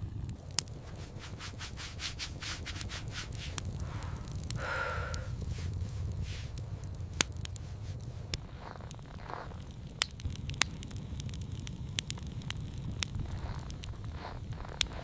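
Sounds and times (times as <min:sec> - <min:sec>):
low steady rumble: 0:00.0 - 0:15.0
sharp crackles and pops: 0:00.0 - 0:15.0.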